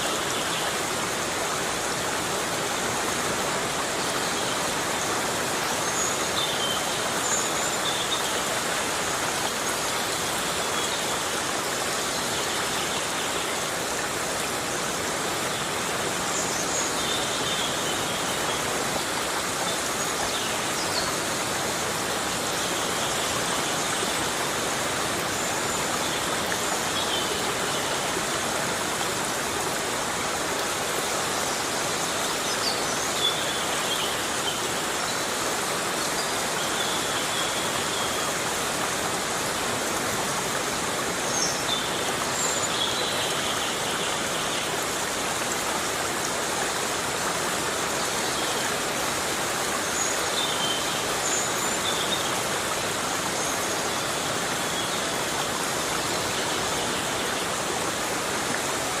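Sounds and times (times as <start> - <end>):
heavy rain in a forest: 0.0 - 59.0.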